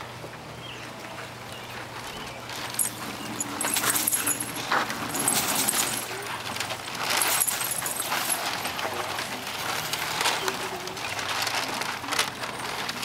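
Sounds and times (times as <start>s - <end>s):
small objects jingling: 2.5s - 13.0s.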